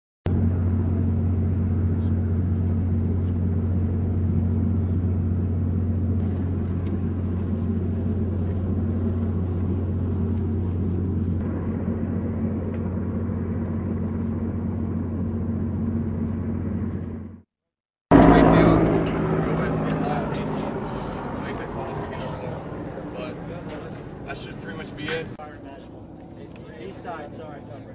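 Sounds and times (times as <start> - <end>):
low engine rumble: 0.3 - 17.5, 18.1 - 27.9.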